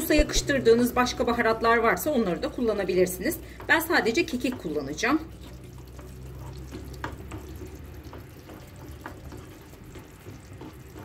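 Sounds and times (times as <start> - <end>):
sauce simmering in a pan: 0.8 - 11.0
wooden spoon scraping a pan: 1.4 - 11.0.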